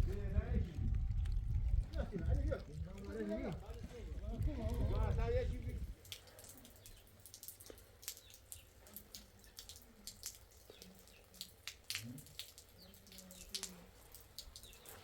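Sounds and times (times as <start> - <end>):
raindrops dripping: 0.0 - 15.0.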